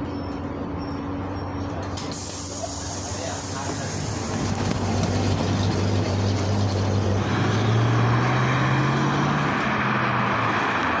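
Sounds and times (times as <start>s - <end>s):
bus engine revving: 2.1s - 11.0s.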